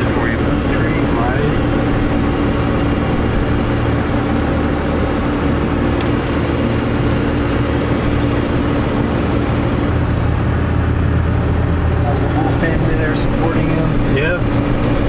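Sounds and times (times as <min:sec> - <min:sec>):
diesel engine drone: 0:00.0 - 0:15.0
road noise: 0:00.0 - 0:15.0.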